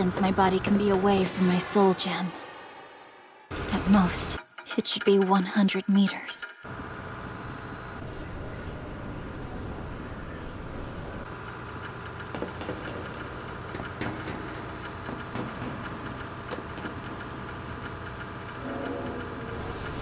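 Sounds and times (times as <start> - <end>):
low mechanical rumble: 0.0 - 5.6, 6.4 - 20.0.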